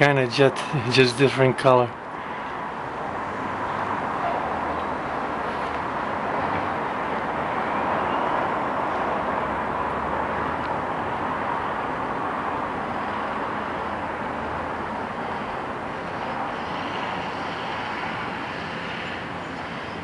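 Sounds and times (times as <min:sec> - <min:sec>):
distant traffic rush: 0:00.0 - 0:20.0.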